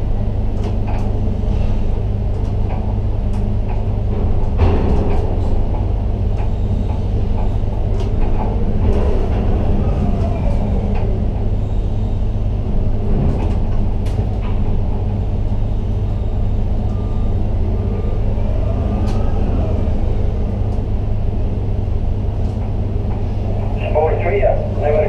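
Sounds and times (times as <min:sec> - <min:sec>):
crane drives rumbling and humming: 0:00.0 - 0:25.0.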